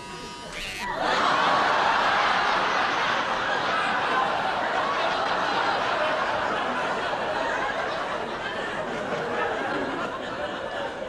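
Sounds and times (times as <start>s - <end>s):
audience laughing: 0.6s - 11.0s.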